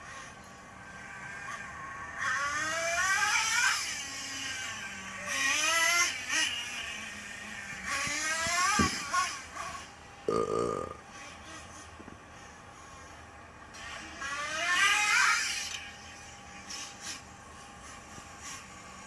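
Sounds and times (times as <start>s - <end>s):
rc truck motor whining: 0.0s - 10.0s, 11.1s - 19.0s.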